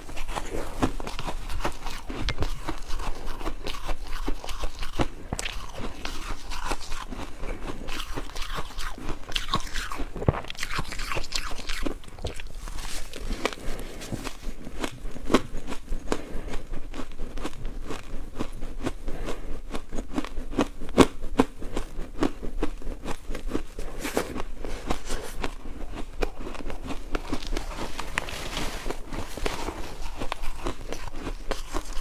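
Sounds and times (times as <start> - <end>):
ice crunching between teeth: 0.0 - 32.0.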